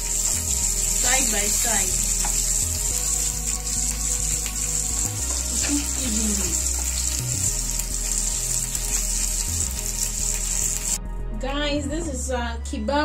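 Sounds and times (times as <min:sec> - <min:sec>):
skewers sizzling in oil: 0:00.0 - 0:11.0.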